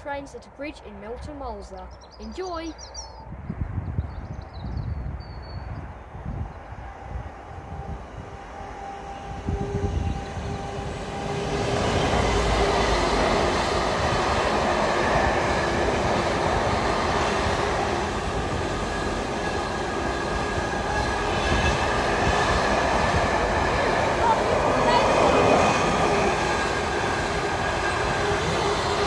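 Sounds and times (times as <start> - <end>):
freight train passing: 0.0 - 29.0.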